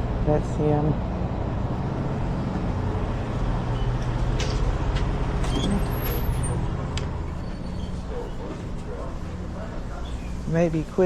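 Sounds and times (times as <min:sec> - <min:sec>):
diesel truck engines idling: 0:00.0 - 0:11.0.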